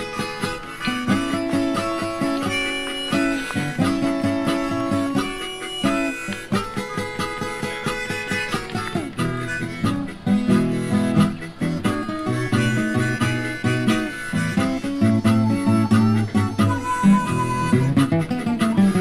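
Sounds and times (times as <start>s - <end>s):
acoustic guitar plucking: 0.0s - 19.0s
harmonica notes: 0.0s - 19.0s.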